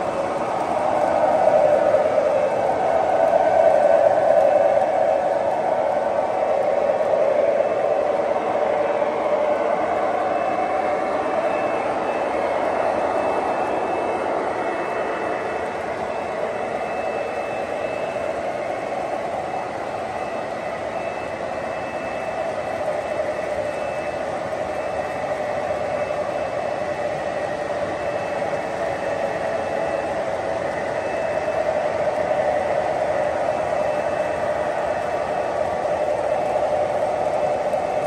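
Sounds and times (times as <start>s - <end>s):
model train rolling on track: 0.0s - 38.0s.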